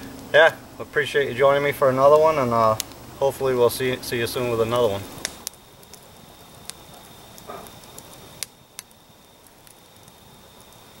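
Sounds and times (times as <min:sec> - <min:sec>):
campfire crackling: 0:00.0 - 0:11.0
fire hissing: 0:00.0 - 0:11.0.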